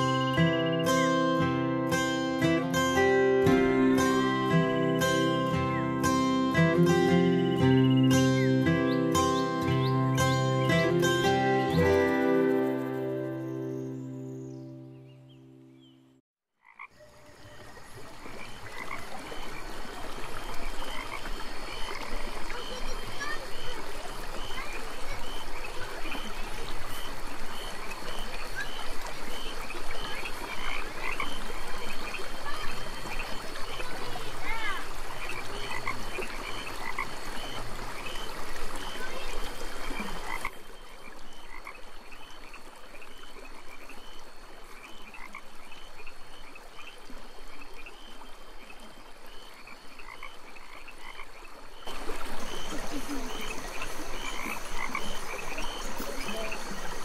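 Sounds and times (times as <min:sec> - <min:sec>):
frogs croaking: 0:00.0 - 0:16.0, 0:16.6 - 0:57.0.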